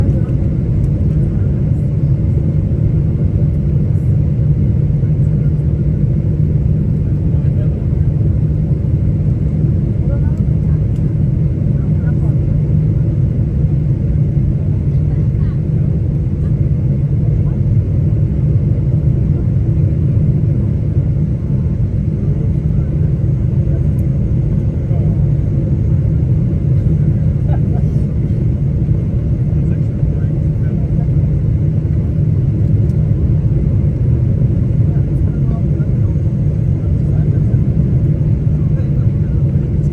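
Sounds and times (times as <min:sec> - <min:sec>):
airplane rumble: 0:00.0 - 0:39.9.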